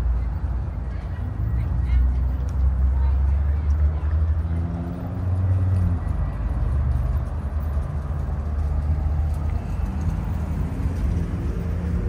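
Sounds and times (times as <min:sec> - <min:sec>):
faint engine hum: 0:00.0 - 0:12.0
traffic rumble: 0:00.0 - 0:12.0.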